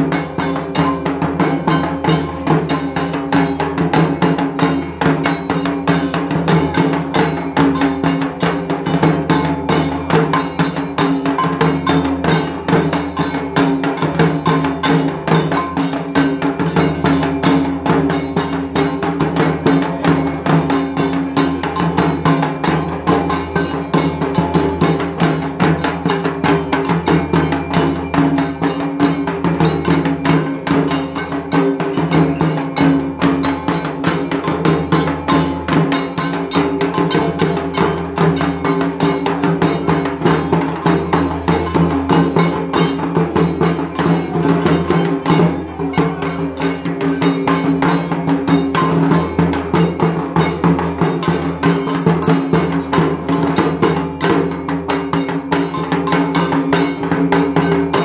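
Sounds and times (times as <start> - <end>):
barrel drums beaten with sticks: 0.0 - 58.0
metallic ringing: 0.0 - 58.0.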